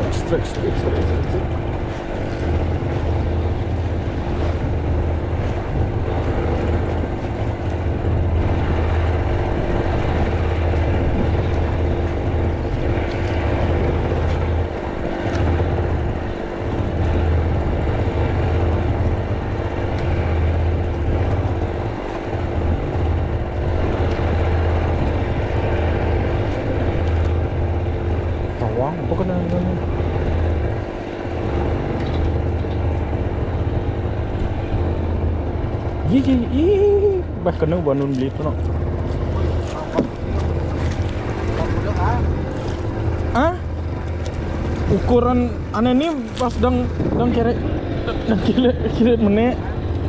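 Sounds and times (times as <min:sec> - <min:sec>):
engine drone: 0:00.0 - 0:50.0.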